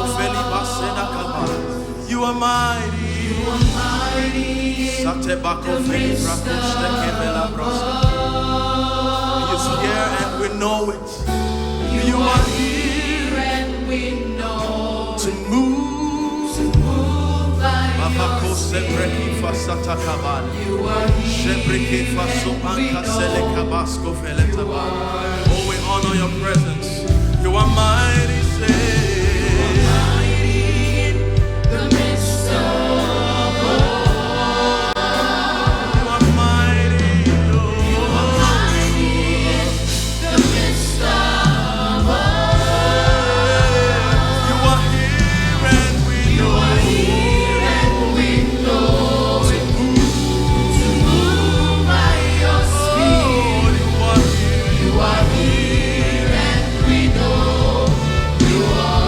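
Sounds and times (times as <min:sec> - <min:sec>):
choir singing: 0:00.0 - 0:59.0
full band playing: 0:00.0 - 0:59.0.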